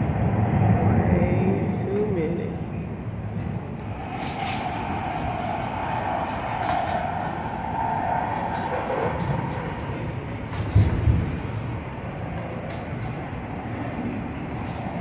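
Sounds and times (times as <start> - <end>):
rail car rumble: 0.0 - 15.0.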